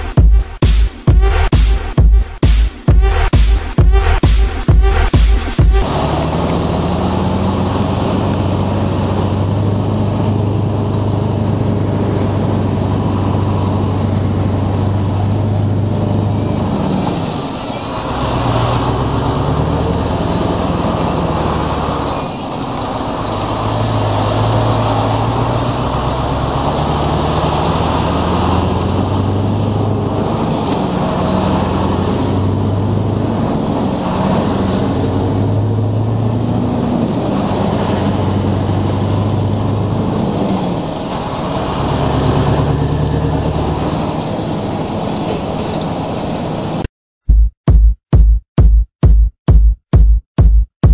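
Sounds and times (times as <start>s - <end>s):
road noise: 0.0s - 46.9s
truck engine revving: 0.0s - 46.9s.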